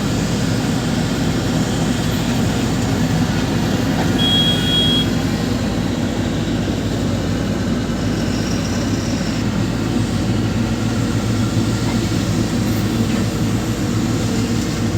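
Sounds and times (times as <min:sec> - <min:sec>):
diesel machinery engine running: 0:00.0 - 0:14.9.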